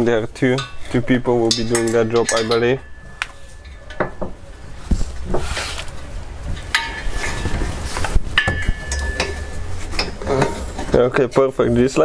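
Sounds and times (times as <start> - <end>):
metal clinks and scrapes: 0.4 - 4.4, 5.0 - 11.0.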